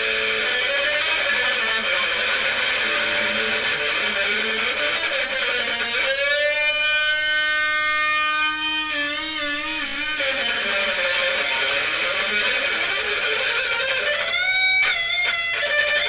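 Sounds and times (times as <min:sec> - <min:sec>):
electric guitar playing: 0:00.0 - 0:16.0.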